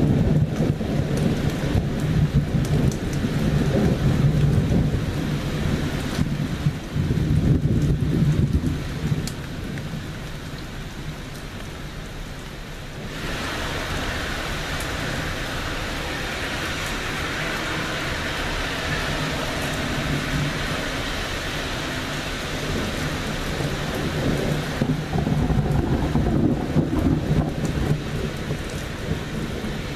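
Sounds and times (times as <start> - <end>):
thunder rumbling: 0.0 - 10.0, 13.0 - 29.9
heavy rain hissing: 0.0 - 29.9.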